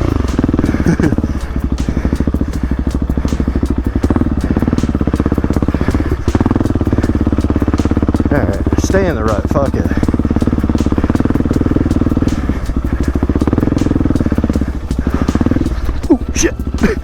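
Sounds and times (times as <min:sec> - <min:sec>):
motorcycle engine chugging: 0:00.0 - 0:17.0.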